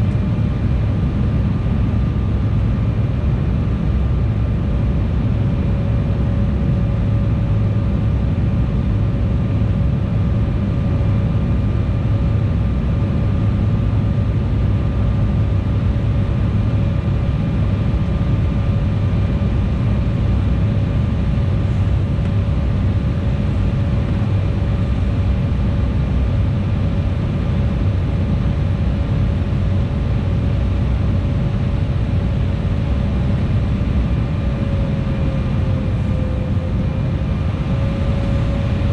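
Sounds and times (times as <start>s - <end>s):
airliner cabin engine rumble: 0.0s - 38.9s
steady whine: 0.0s - 38.9s.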